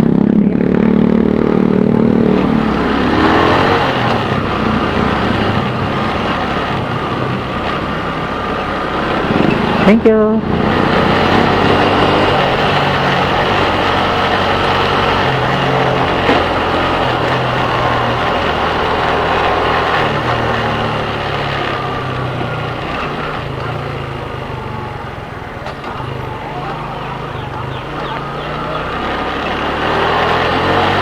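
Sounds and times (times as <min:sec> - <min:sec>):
motorcycle engine running: 0:00.0 - 0:31.0
road and wind noise: 0:00.0 - 0:31.0.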